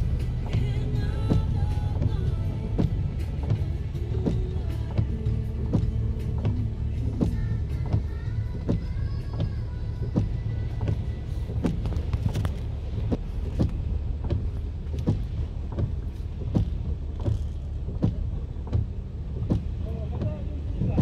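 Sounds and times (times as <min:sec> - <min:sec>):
heavy rain on car: 0:00.0 - 0:21.0.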